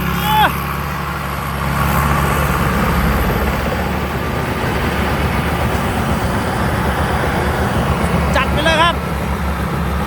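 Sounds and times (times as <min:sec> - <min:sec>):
diesel engine running under load: 0:00.0 - 0:10.0
harvesting machinery running: 0:00.0 - 0:10.0.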